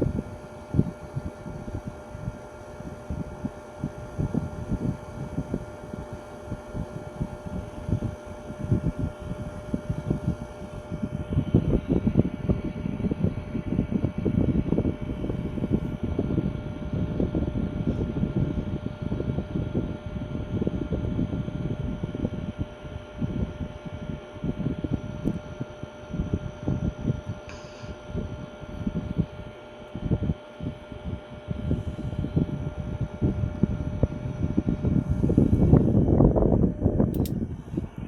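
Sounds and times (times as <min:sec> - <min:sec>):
ceiling fan hum: 0:00.0 - 0:38.0
fan draft buffeting microphone: 0:00.0 - 0:38.0.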